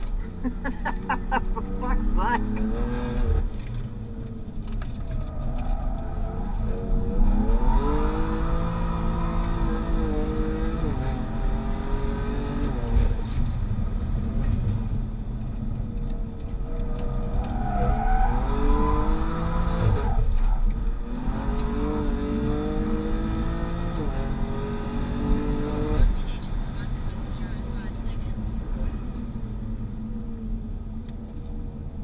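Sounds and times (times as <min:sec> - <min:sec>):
car engine revving: 0:00.0 - 0:31.4.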